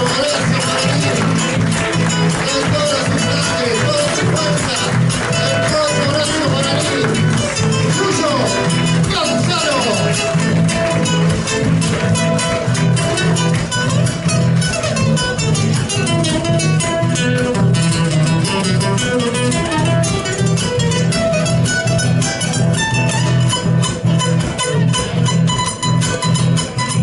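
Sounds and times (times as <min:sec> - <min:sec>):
guitars plucking: 0:00.0 - 0:27.0
pulsing bass line: 0:00.0 - 0:27.0.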